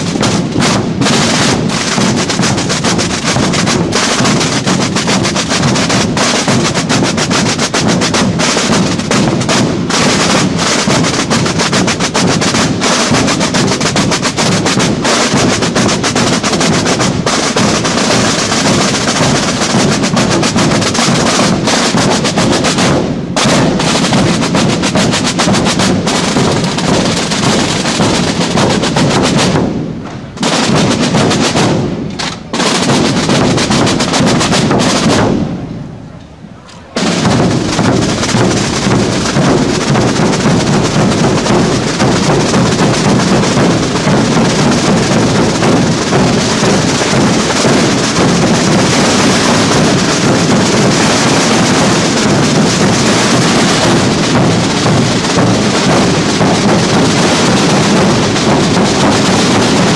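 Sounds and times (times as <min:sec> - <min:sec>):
bass drums: 0:00.0 - 0:35.6, 0:37.0 - 0:59.9
snare drums: 0:00.0 - 0:59.9.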